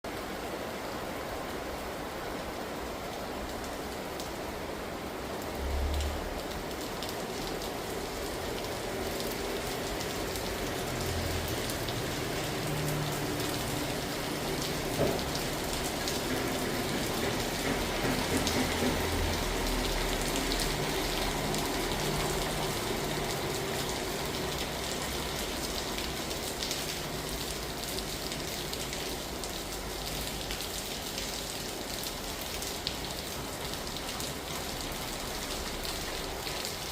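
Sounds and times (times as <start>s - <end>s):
rain pattering: 0.1s - 36.9s.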